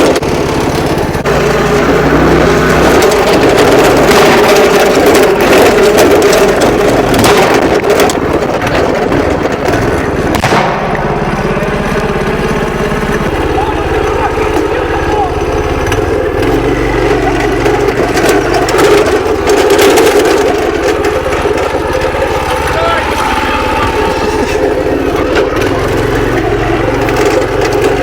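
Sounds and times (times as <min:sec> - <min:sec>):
van engine running: 0:00.0 - 0:28.0.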